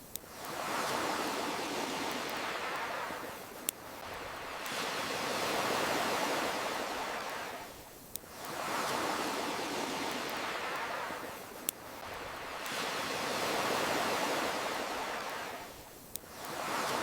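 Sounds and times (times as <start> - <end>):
ocean waves washing: 0.2 - 17.0.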